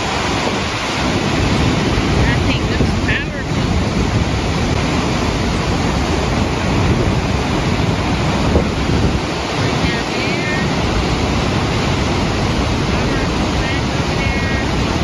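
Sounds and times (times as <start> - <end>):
whitewater rushing: 0.0 - 15.0
wind on microphone: 0.0 - 15.0.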